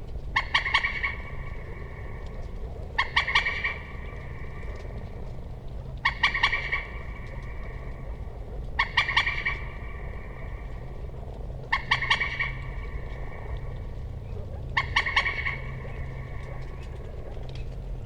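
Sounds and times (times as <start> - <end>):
moorhen calling: 0.3 - 17.5.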